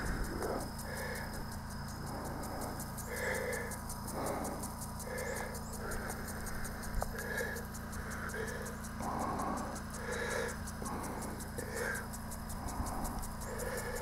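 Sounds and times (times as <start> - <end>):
lawn sprinkler ticking: 0.0 - 14.0.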